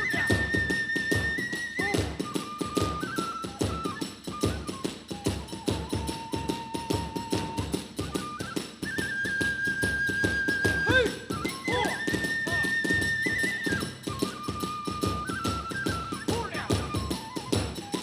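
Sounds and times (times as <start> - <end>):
drums beating: 0.0 - 9.0, 9.8 - 18.0
bamboo flute long notes: 0.0 - 18.0
small hand cymbals: 0.0 - 18.0.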